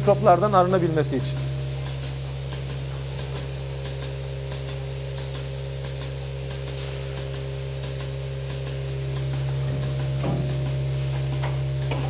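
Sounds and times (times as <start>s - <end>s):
milking pulsators ticking: 0.0s - 12.0s
vacuum system humming: 0.0s - 12.0s.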